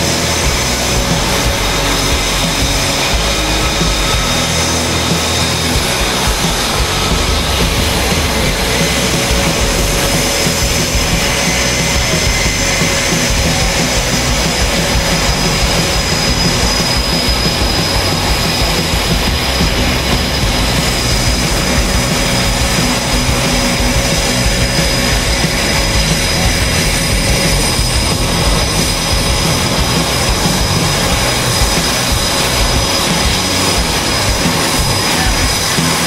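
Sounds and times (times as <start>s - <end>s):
jet engines idling: 0.0s - 36.0s.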